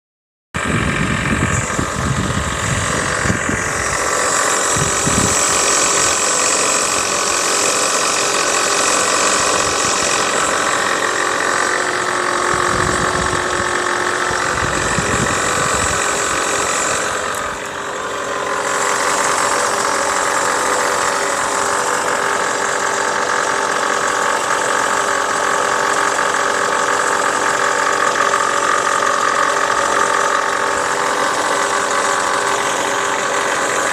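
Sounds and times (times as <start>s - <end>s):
car engine running: 0.6s - 33.9s
extra engine noise: 0.6s - 33.9s.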